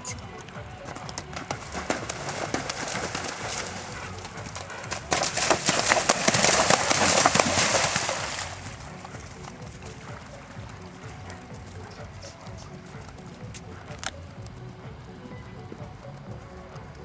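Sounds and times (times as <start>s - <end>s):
hooves splashing in water: 0.0s - 15.0s
horse hoofbeats on grass: 0.0s - 17.0s.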